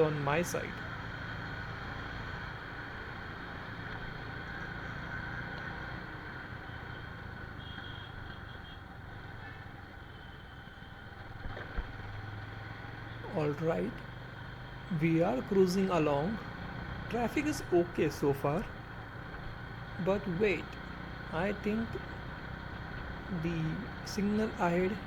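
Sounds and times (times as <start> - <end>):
road and wind hiss: 0.0 - 8.1, 10.9 - 25.0
motorcycle engine cruising: 0.0 - 25.0.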